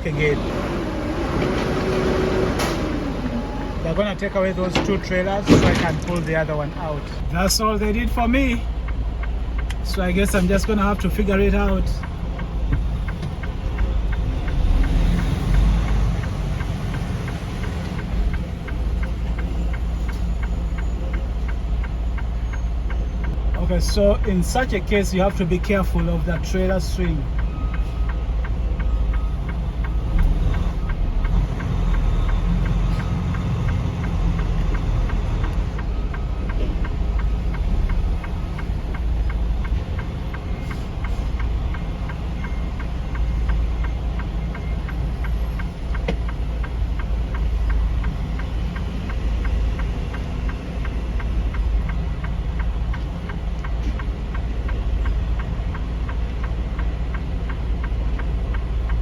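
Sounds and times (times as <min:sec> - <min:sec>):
truck diesel engine running: 0:00.0 - 0:59.0
light regular ticking: 0:03.3 - 0:59.0.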